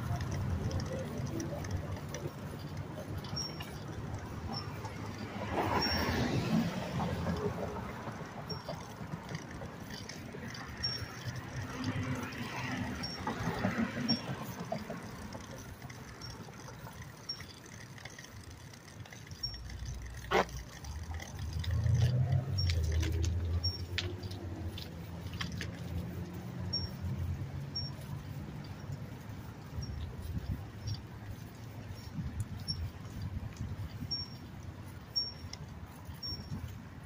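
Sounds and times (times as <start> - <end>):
motor vehicle passing rumbling: 0.0 - 32.4
faint high ticks: 0.0 - 37.0.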